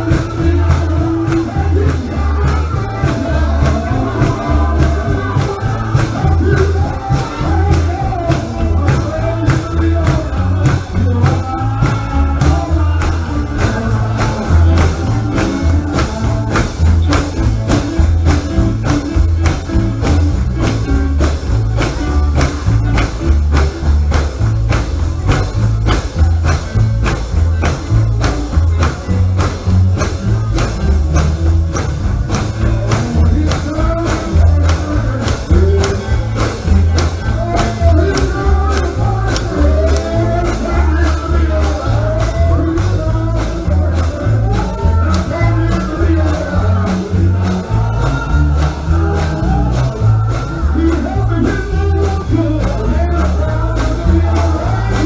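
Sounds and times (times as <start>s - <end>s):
singing: 0.0s - 30.8s, 31.7s - 55.0s
gospel band playing: 0.0s - 55.0s
tambourine beat: 0.0s - 55.0s.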